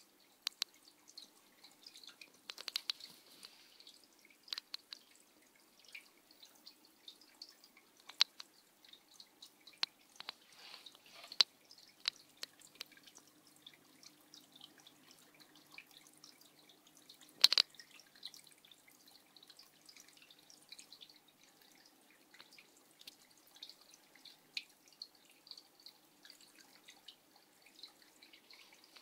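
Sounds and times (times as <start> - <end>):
water dripping and splashing: 0.0 - 29.0.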